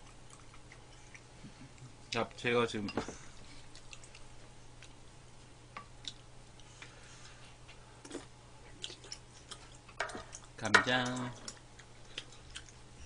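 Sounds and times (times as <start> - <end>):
low steady hum: 0.0 - 13.0
soft eating sounds: 0.0 - 13.0.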